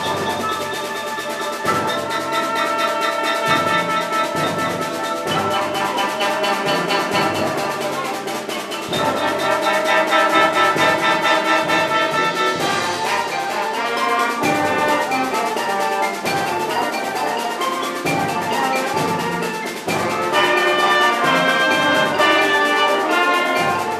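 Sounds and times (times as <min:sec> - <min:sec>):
brass band playing: 0:00.0 - 0:23.9
percussion beat: 0:00.0 - 0:23.9.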